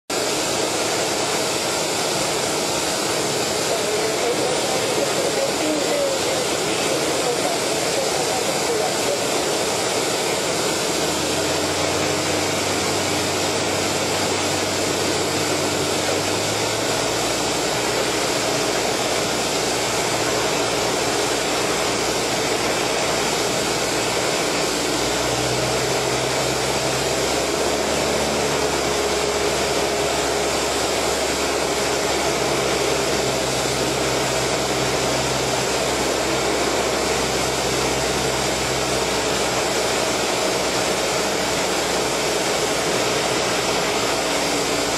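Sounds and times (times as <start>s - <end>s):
aircraft engine and propeller drone: 0.1s - 44.9s.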